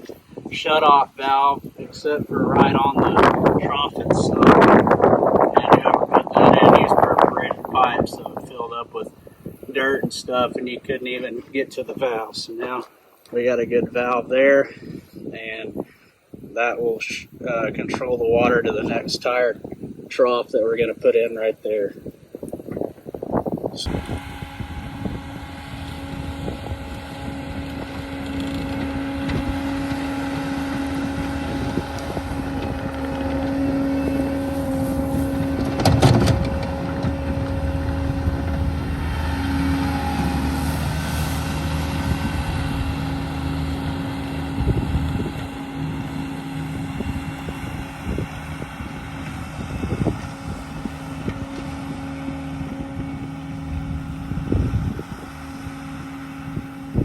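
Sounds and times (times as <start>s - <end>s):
engine running under load: 0.0s - 16.4s, 17.0s - 20.1s, 22.0s - 57.0s.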